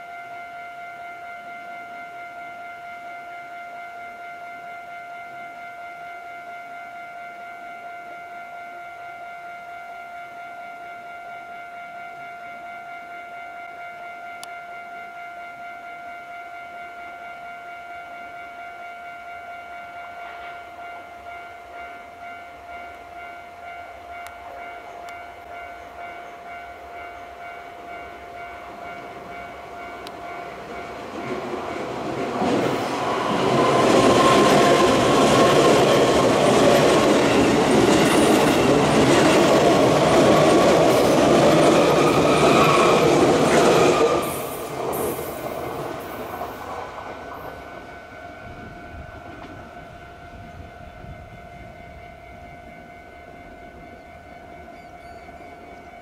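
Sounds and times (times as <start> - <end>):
electric train passing: 0.0 - 56.0
level crossing alarm ringing: 0.0 - 56.0.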